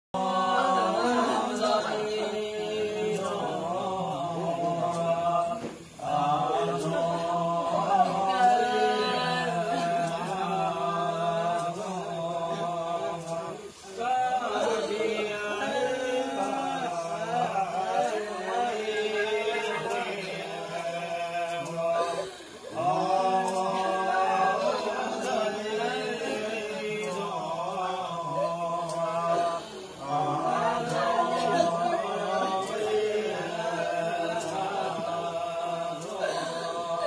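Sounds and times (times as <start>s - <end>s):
voices chanting together: 0.1s - 37.0s
steady held drone: 0.2s - 37.0s.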